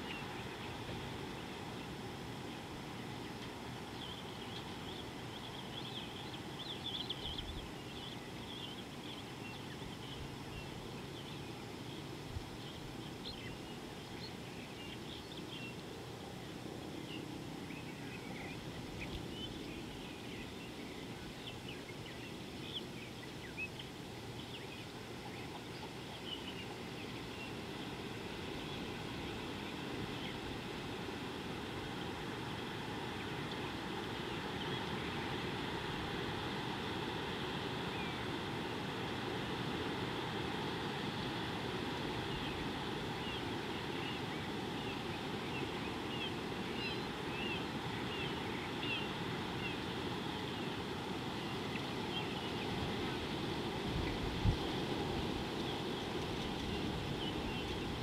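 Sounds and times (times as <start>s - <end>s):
low outdoor hiss: 0.0s - 58.0s
small birds chirping: 0.0s - 58.0s.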